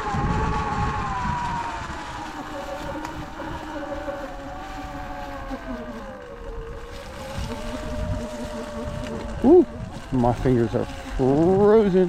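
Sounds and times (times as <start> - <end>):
electric motorbike motor whining: 0.0 - 12.0
wind noise on microphone: 0.0 - 12.0.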